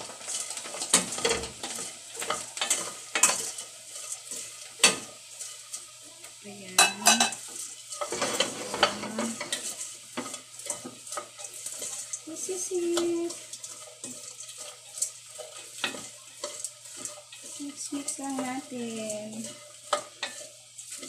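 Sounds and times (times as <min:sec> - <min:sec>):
light caramel sizzle: 0:00.0 - 0:21.0
spoon scraping metal pot: 0:00.3 - 0:05.6, 0:06.8 - 0:21.0.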